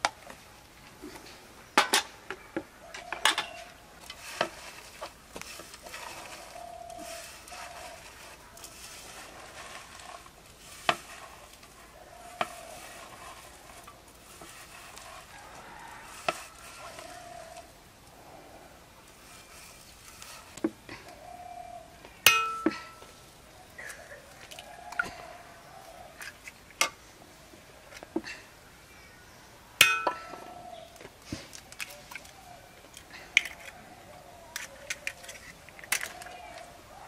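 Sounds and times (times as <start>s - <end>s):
faint steady hiss: 0.0s - 37.0s.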